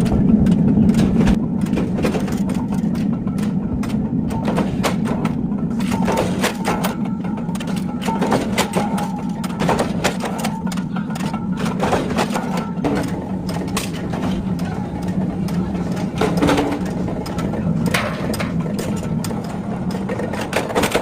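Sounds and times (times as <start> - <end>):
machinery humming: 0.0 - 21.0
sharp metallic clicks and knocks: 0.0 - 21.0.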